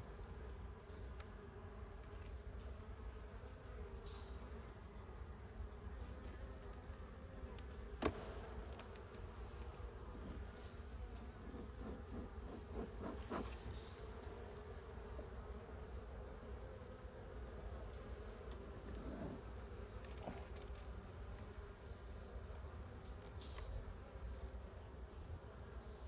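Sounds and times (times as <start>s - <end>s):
honey bees buzzing: 0.0s - 26.0s.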